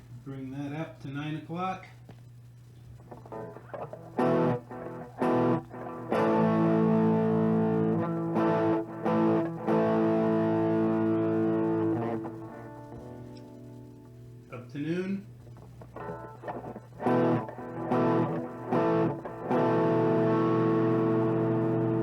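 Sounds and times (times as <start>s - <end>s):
distorted electric guitar chords: 3.0s - 22.0s.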